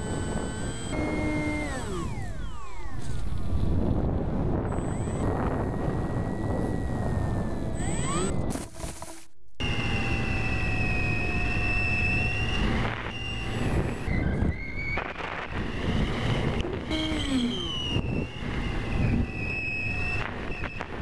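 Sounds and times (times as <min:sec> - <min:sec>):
wind noise on microphone: 0:00.0 - 0:08.7, 0:10.6 - 0:21.0
electric motor and propeller whine: 0:00.0 - 0:21.0.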